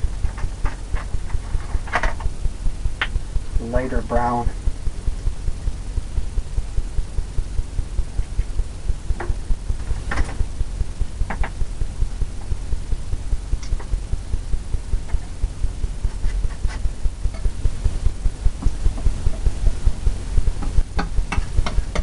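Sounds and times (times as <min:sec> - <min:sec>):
low throbbing hum: 0:00.0 - 0:22.0.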